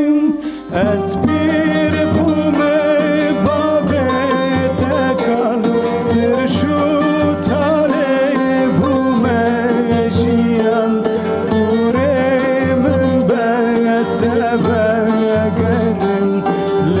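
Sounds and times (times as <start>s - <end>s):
middle eastern folk music: 0.0s - 17.0s.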